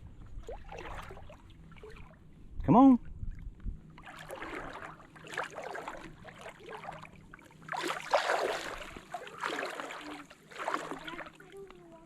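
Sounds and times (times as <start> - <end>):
water splashing around wading legs: 0.3 - 2.2, 3.3 - 11.9.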